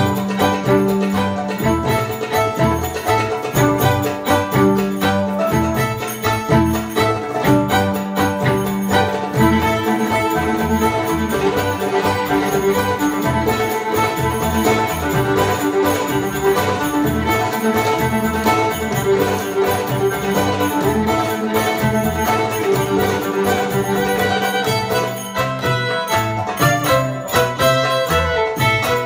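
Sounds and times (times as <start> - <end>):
bass: 0.0 - 29.0
hand drum beat: 0.0 - 29.0
mandolin: 0.0 - 29.0
metallic jingling: 0.0 - 29.0
violin melody: 0.0 - 29.0.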